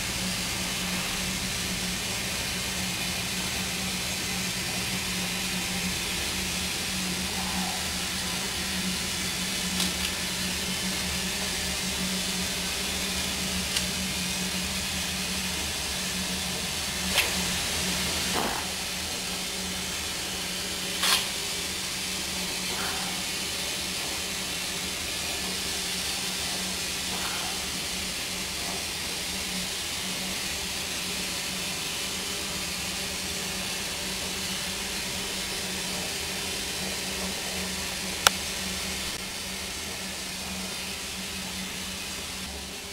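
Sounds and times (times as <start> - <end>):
steam hissing from locomotive: 0.0 - 42.9.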